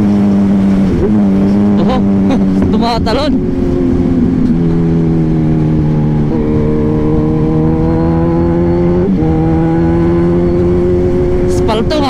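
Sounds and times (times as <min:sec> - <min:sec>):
motorcycle engine accelerating: 0:00.0 - 0:12.0
wind rumbling on microphone: 0:00.0 - 0:12.0.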